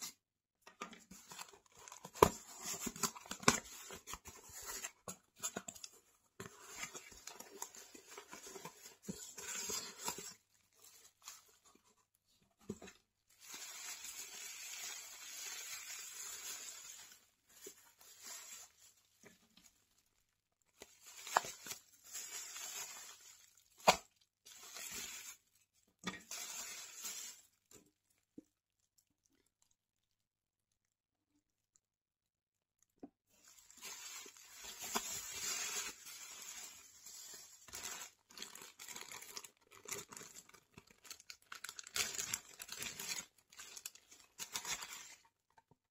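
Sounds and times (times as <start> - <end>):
bubble wrap and cardboard crinkling: 0.0 - 28.9, 33.3 - 45.8.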